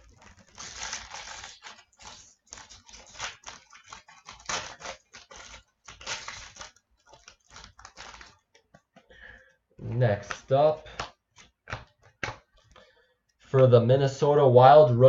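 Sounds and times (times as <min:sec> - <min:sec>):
trading cards rustling and scraping: 0:00.0 - 0:13.1.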